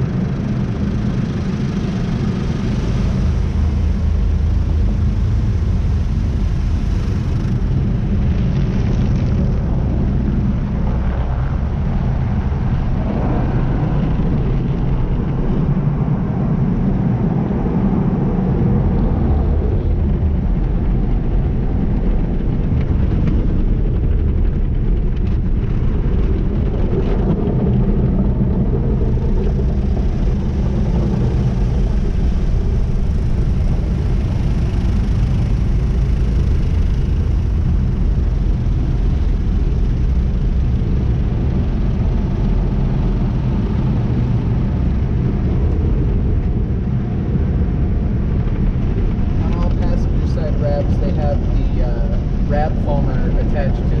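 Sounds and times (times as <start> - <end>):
car wash low rumble: 0.0 - 54.0.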